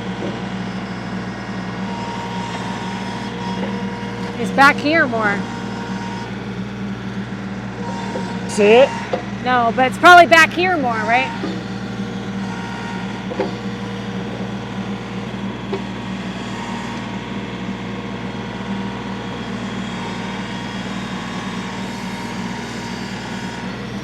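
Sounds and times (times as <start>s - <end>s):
engine humming steadily: 0.0s - 24.0s.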